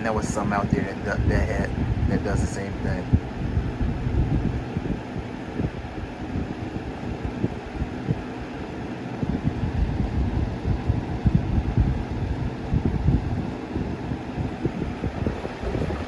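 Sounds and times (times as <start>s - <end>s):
box fan fluttering rumble: 0.0s - 16.0s.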